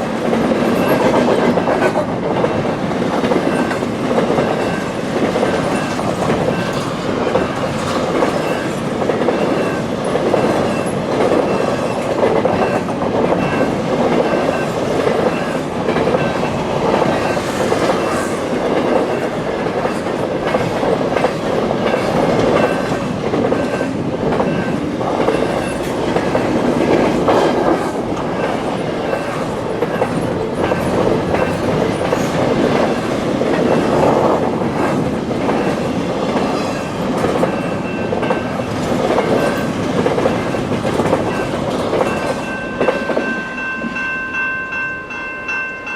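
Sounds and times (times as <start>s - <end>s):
crossing bell ringing: 0.0s - 20.7s, 21.7s - 34.0s, 36.9s - 45.9s
train wheels clacking over rail joints: 0.0s - 43.4s.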